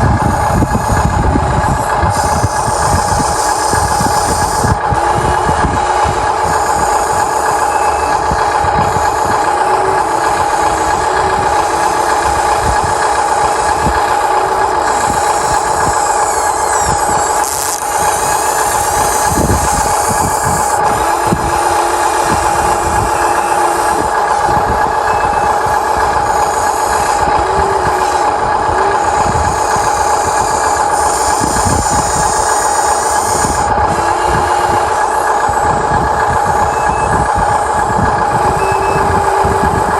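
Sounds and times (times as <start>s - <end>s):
toy excavator motor whine: 0.0s - 39.9s.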